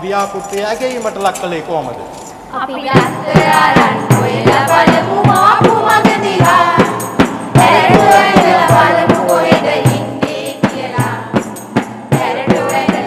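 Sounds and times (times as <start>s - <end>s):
percussion beat: 0.0s - 13.0s
women singing together: 2.5s - 13.0s.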